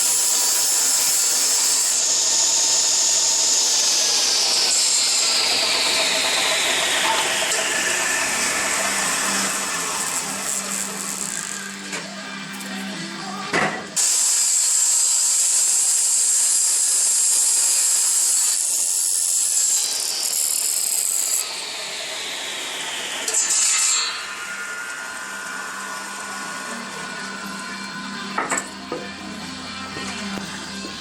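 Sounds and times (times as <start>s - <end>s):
saw motor humming: 0.0s - 31.0s
table saw cutting wood: 0.0s - 31.0s.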